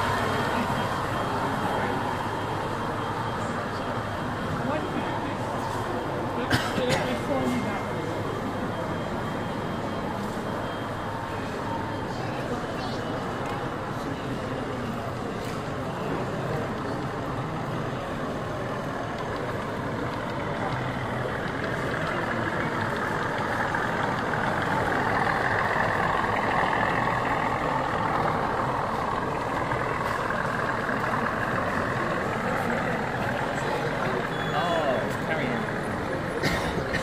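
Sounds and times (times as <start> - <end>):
hall background noise: 0.0 - 37.0
model locomotive diesel engine: 0.0 - 37.0.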